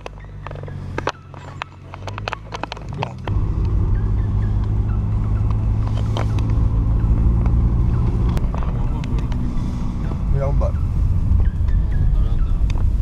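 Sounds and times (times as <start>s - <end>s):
car engine from inside cabin: 0.0s - 13.0s.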